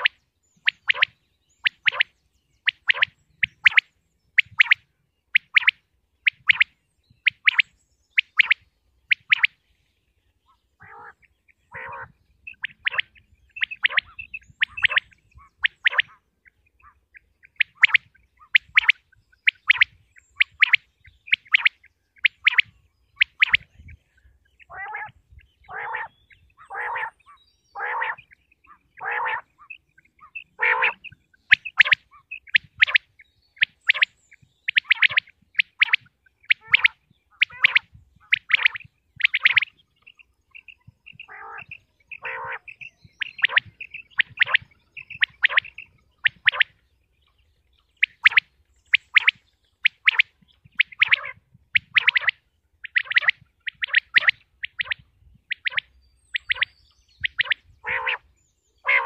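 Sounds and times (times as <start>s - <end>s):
quail sharp high calls: 0.0s - 9.6s, 10.8s - 46.8s, 48.0s - 59.0s
lower rougher bird calls: 0.0s - 9.7s, 10.4s - 59.0s.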